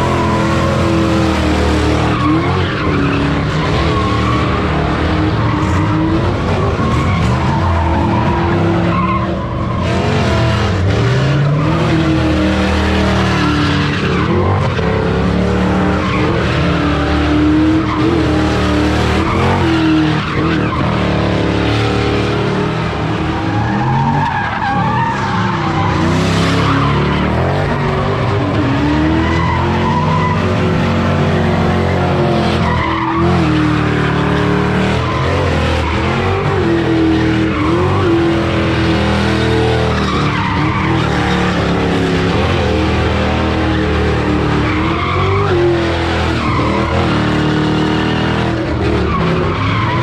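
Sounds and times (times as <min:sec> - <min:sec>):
car engine revving high: 0:00.0 - 0:50.0
tyres squealing: 0:00.0 - 0:50.0.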